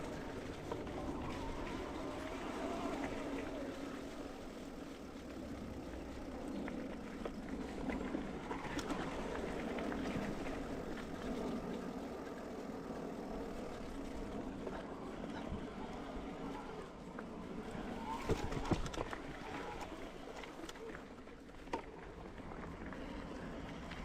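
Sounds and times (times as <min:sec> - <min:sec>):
bike tyres rolling on dirt trail: 0:00.0 - 0:24.0.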